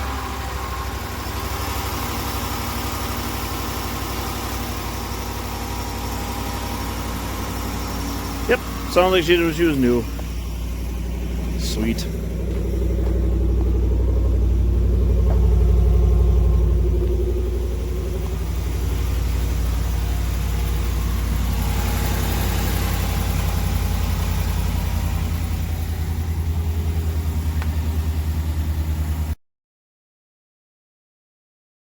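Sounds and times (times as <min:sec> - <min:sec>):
car engine idling: 0:00.0 - 0:29.4.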